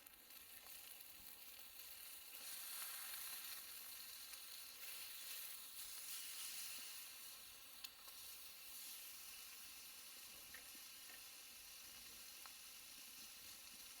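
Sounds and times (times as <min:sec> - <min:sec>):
meat sizzling on hot plate: 0:00.0 - 0:14.0.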